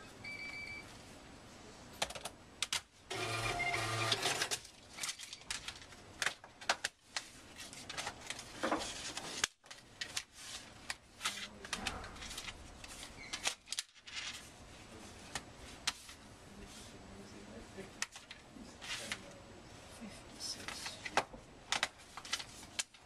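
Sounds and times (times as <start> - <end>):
books and plastic cases handled: 4.5 - 23.0.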